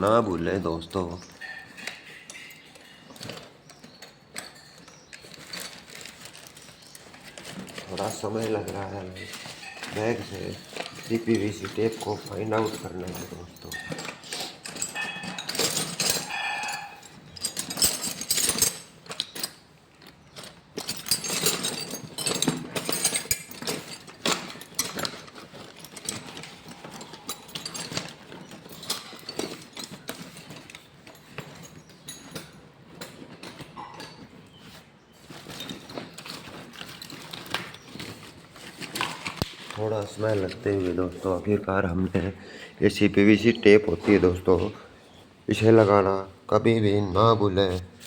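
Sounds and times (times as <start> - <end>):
rummaging through tool bag: 0.0 - 46.0.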